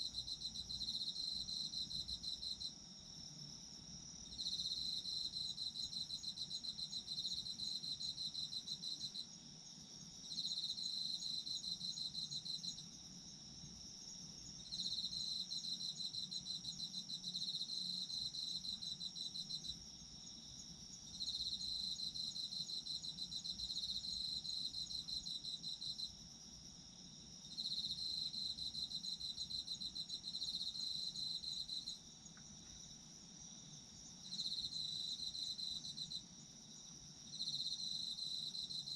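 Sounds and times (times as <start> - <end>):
cricket pulsed chirping: 0.0 - 38.9.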